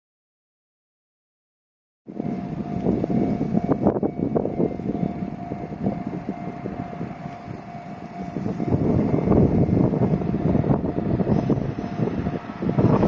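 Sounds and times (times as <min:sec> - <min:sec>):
freight train wheels rumbling: 0:02.1 - 0:13.0
steady tone: 0:02.1 - 0:13.0.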